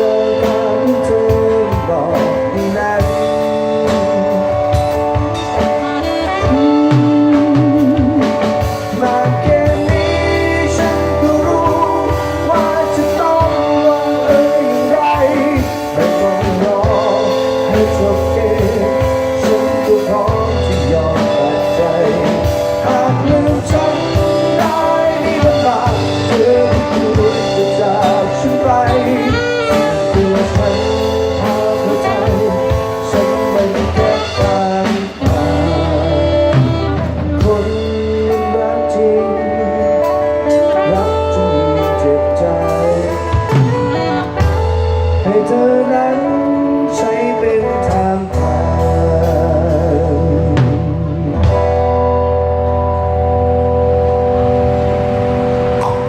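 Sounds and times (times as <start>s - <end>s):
band playing instrumental music: 0.0s - 56.0s.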